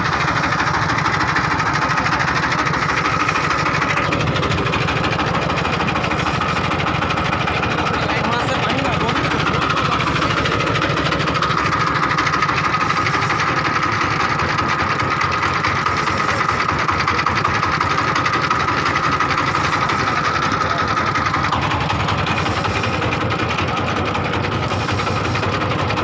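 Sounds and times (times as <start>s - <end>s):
boat engine chugging: 0.0s - 26.0s.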